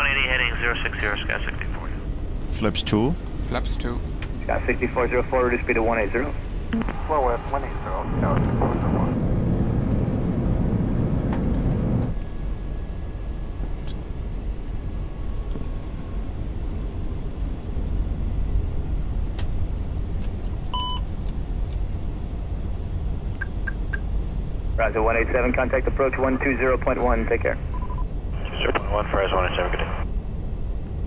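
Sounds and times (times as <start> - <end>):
low rumble of airflow and engines: 0.0 - 31.0.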